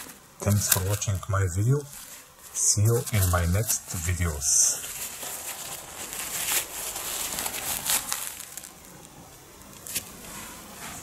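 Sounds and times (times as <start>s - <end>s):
disposable nappies rustling: 0.0s - 11.0s.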